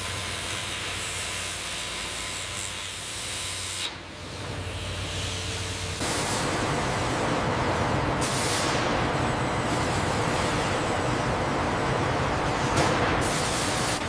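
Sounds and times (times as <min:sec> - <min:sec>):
wood-processing machinery hissing: 0:00.0 - 0:14.0.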